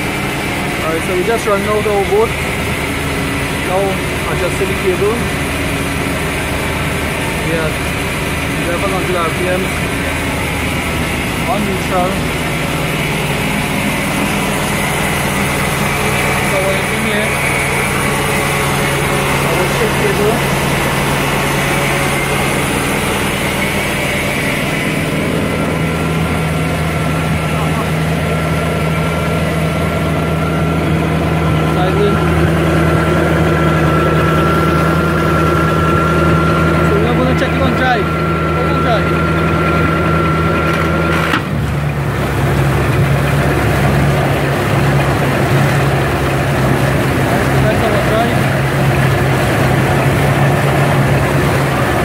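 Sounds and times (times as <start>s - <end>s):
boat engine idling: 0.0s - 52.0s
propeller churning water: 0.0s - 52.0s
steady whine: 0.0s - 52.0s.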